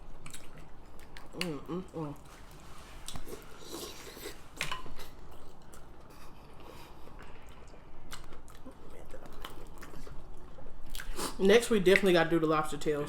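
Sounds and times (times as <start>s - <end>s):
chewing and biting: 0.0s - 2.4s, 3.0s - 11.4s.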